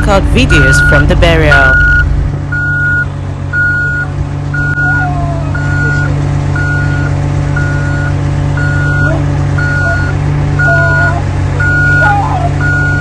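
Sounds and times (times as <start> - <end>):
backup alarm beeping: 0.0 - 13.0
engine droning: 0.0 - 13.0.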